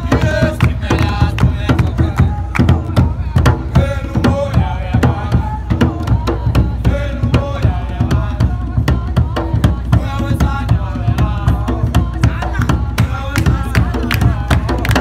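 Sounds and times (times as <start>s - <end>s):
voices singing: 0.0s - 15.0s.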